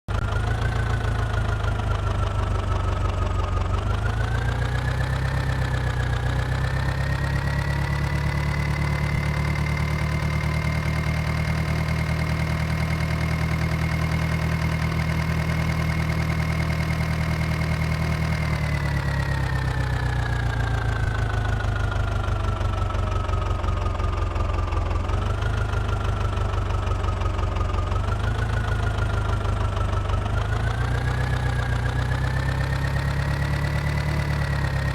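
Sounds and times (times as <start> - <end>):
tractor diesel engine revving: 0.1 - 34.9.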